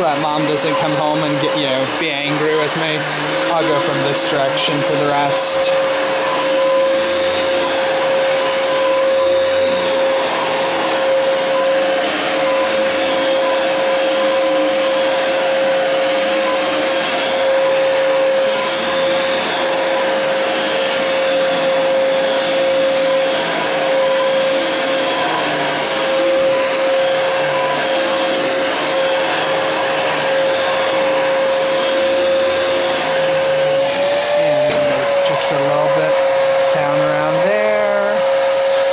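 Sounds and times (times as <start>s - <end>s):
upright vacuum cleaner whining: 0.0s - 38.9s.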